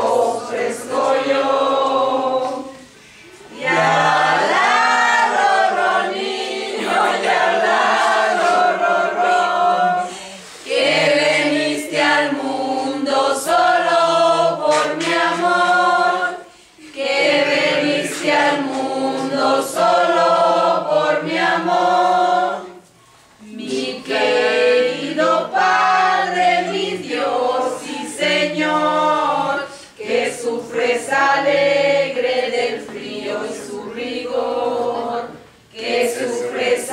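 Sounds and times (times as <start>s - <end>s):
group singing without instruments: 0.0s - 36.9s.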